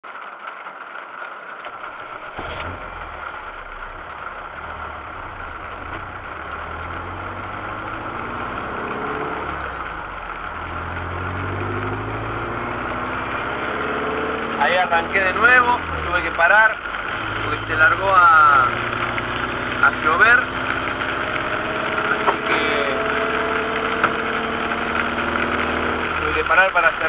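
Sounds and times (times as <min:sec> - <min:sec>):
pickup engine starting and pulling away: 0:00.1 - 0:27.0.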